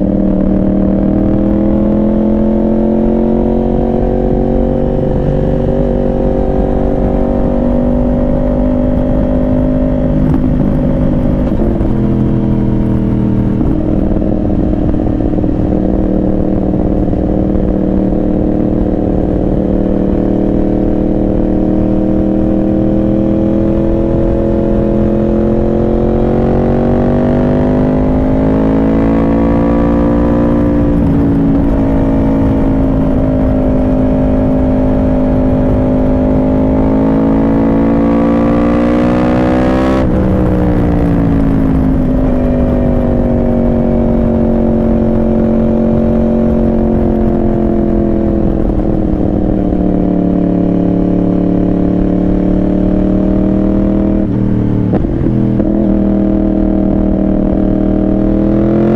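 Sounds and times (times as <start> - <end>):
low wind rush: 0.0 - 58.9
motorcycle engine shifting gears: 0.0 - 58.9.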